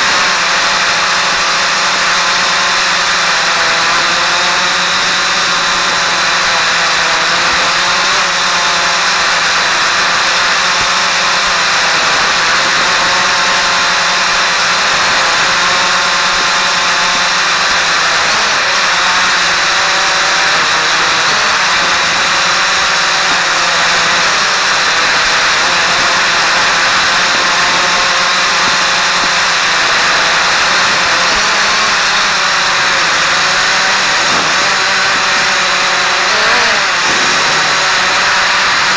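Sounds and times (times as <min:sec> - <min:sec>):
quadcopter motors whirring: 0:00.0 - 0:38.9.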